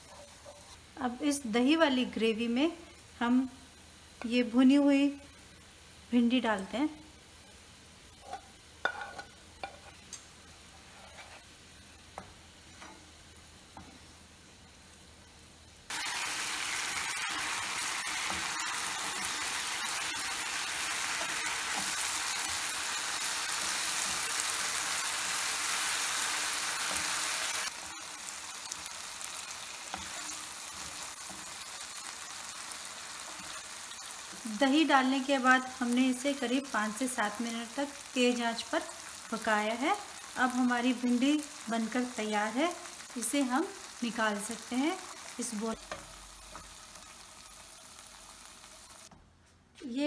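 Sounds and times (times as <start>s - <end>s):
food sizzling in pan: 0.0s - 49.2s.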